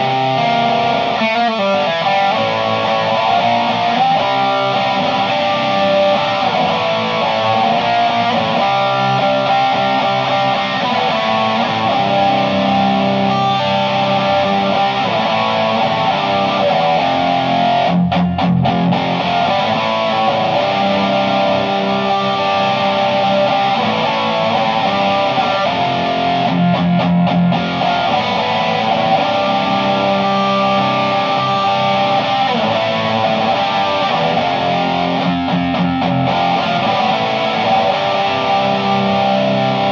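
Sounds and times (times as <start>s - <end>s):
distorted electric guitar chords: 0.0s - 39.9s.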